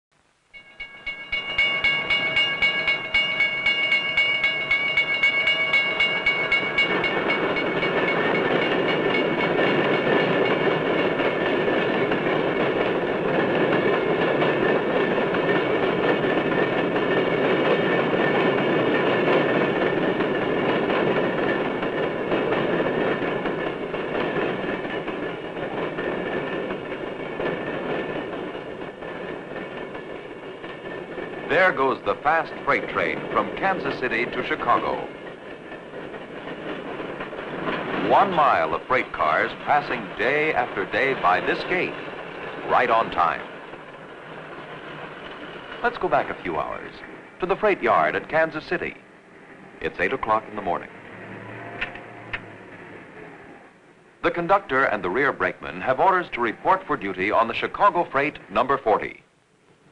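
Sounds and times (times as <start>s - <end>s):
train wheels clattering: 0.6s - 49.0s.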